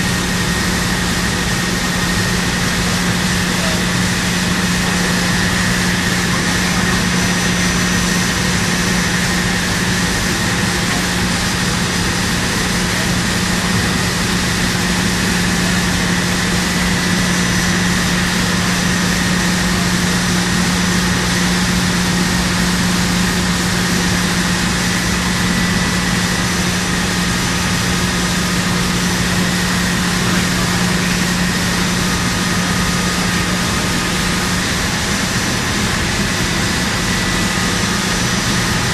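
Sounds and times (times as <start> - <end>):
constant low hum: 0.0 - 38.9
machinery rushing noise: 0.0 - 38.9.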